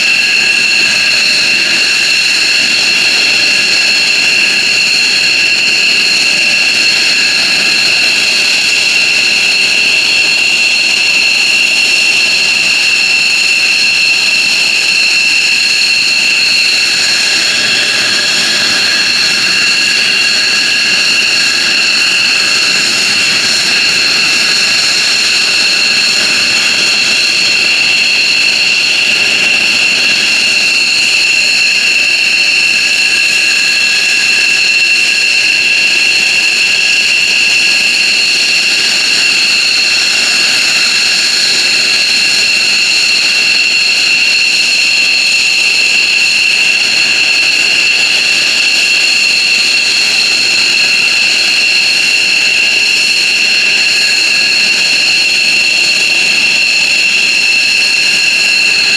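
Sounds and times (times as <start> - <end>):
high whining engine tones: 0.0 - 58.9
jet engines running: 0.0 - 58.9.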